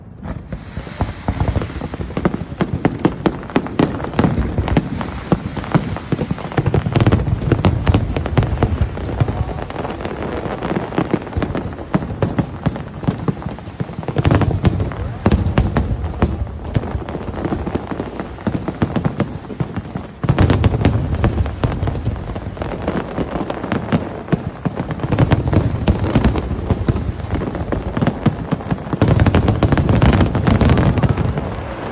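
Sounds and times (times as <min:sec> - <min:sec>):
fireworks cracking and popping: 0:00.0 - 0:31.9
fireworks deep booms: 0:00.0 - 0:31.9.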